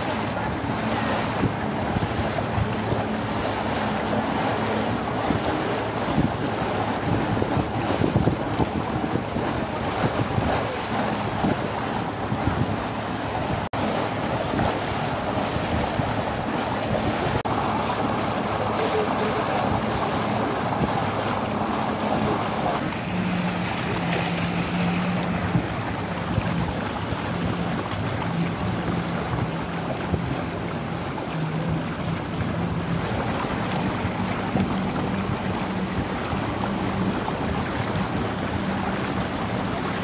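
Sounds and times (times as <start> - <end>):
boat engine hum: 0.0 - 40.0
water rushing along boat hull: 0.0 - 40.0
wind on microphone: 0.0 - 40.0.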